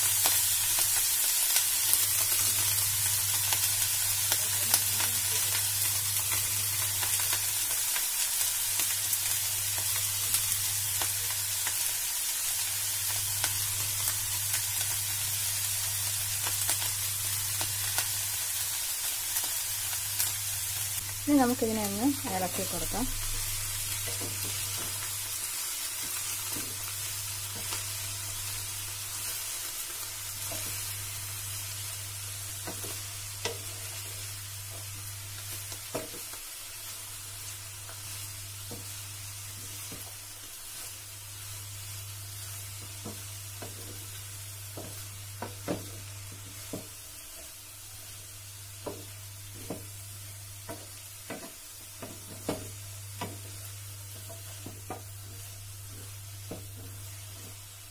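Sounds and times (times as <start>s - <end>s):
eggplant sizzling in a pan: 0.0s - 57.9s.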